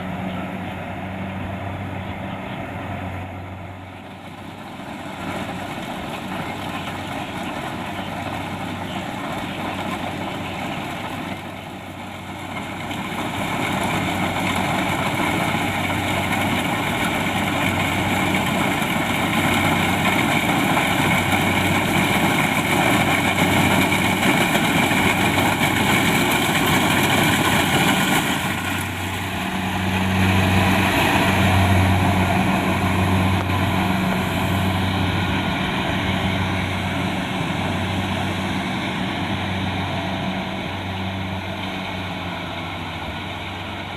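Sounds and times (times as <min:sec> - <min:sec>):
combine harvester engine hum: 0:00.0 - 0:43.9.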